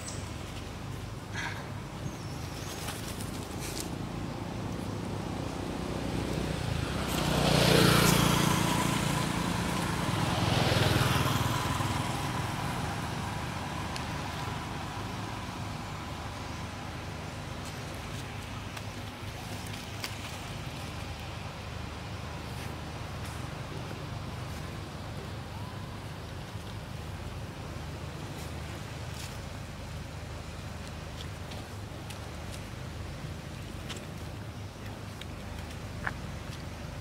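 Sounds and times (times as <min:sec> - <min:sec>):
vehicles passing by: 0:00.0 - 0:37.0.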